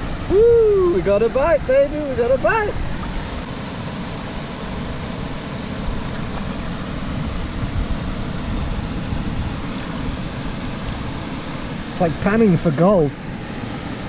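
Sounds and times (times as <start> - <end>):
fast-flowing stream water: 0.0 - 14.0
waterfall: 0.0 - 14.0.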